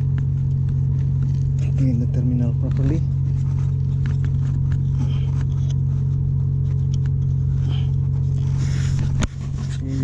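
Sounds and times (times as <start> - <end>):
ship machinery drone: 0.0 - 10.0.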